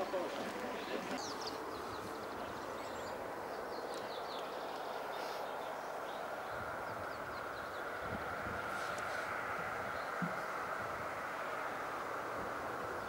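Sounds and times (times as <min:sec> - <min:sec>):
road traffic hum: 0:00.0 - 0:13.0
small birds chirping: 0:00.0 - 0:13.0
vehicles driving past: 0:00.0 - 0:13.0.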